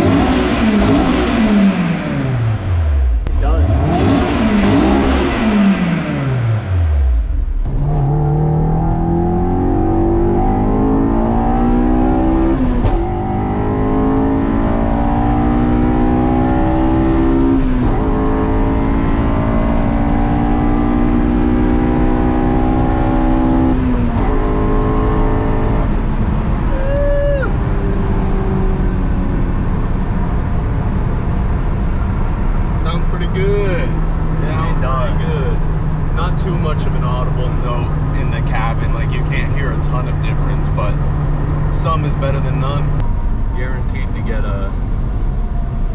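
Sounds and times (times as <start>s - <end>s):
car accelerating with gear shifts: 0.0s - 45.9s
car engine revving: 0.0s - 45.9s.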